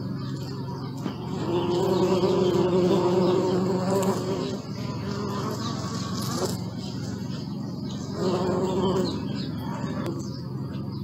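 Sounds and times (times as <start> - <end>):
honeybee buzzing in flight: 1.1 - 10.4.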